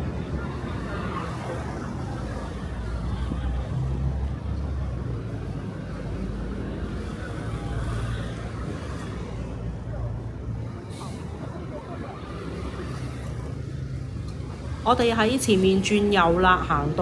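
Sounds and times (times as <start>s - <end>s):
bus passing: 0.0s - 17.0s
motor scooters passing: 0.0s - 17.0s
traffic hum: 0.0s - 17.0s.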